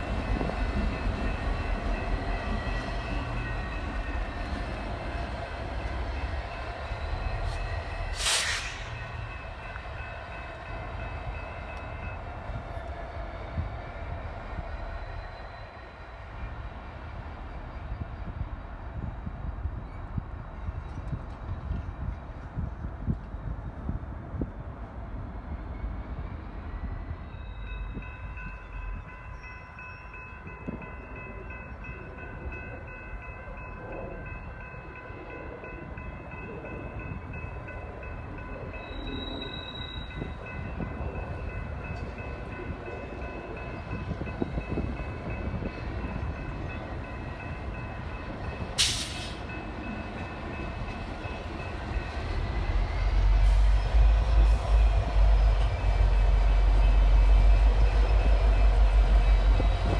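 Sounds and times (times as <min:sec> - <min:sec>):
diesel locomotives running: 0:00.0 - 0:59.9.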